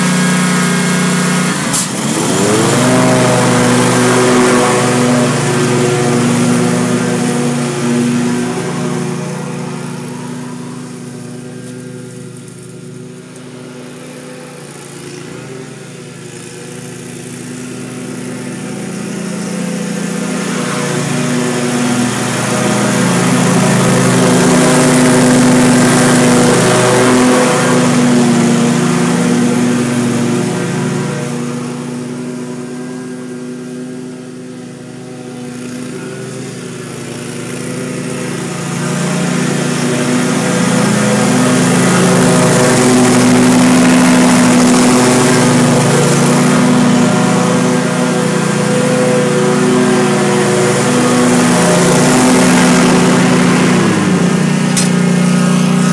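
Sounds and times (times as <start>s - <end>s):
mower blades cutting grass: 0.0s - 55.9s
mower engine running: 0.0s - 55.9s.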